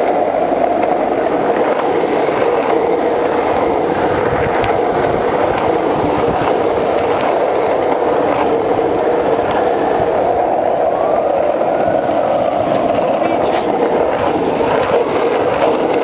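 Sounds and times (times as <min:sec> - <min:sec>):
skateboard wheels rolling on asphalt: 0:00.0 - 0:16.0
wheels clicking over road joints: 0:00.0 - 0:16.0.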